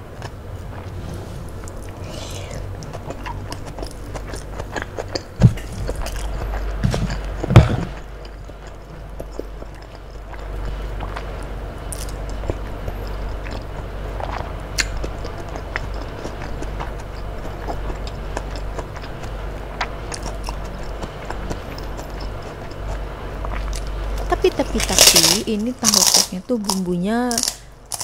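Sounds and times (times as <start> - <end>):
chewing with mouth clicks: 0.0 - 28.0
low steady hum: 0.0 - 28.0.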